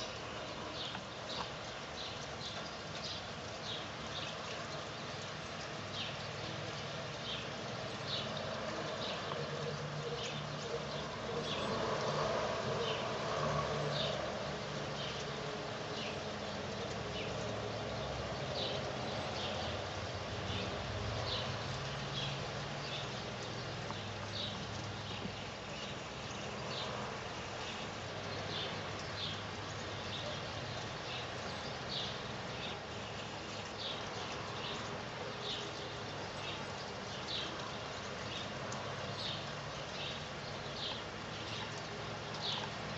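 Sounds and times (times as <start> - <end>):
high ticks of raindrops: 0.0 - 42.9
steady rain: 0.0 - 42.9.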